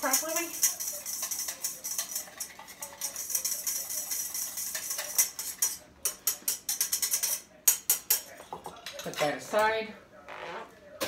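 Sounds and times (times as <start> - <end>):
whisk clinking against metal bowl: 0.0 - 9.2.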